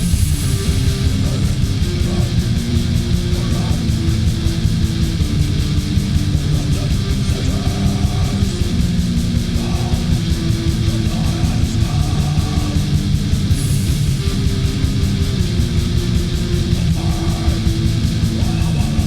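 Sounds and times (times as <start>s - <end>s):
distorted electric guitars: 0.0s - 19.0s
fast drumming: 0.0s - 19.0s.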